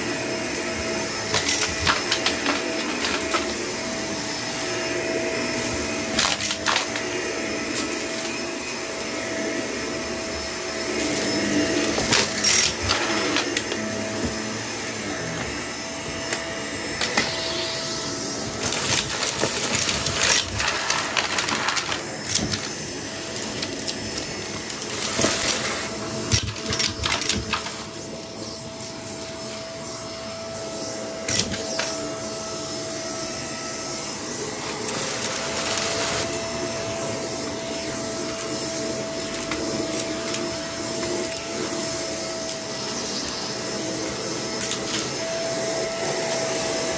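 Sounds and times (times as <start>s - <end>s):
vacuum cleaner motor whine: 0.0s - 46.9s.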